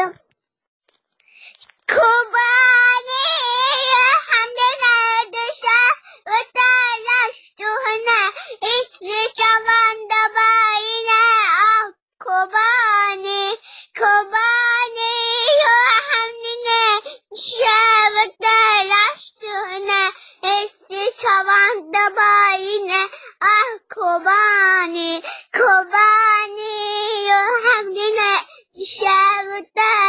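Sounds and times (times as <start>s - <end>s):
toddler girl singing: 1.9s - 30.0s.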